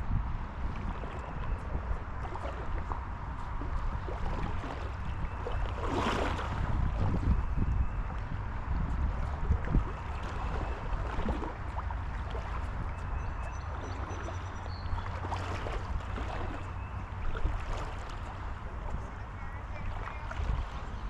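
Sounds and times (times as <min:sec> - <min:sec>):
river water gurgling: 0:00.0 - 0:21.0
steady low rumble: 0:00.0 - 0:21.0.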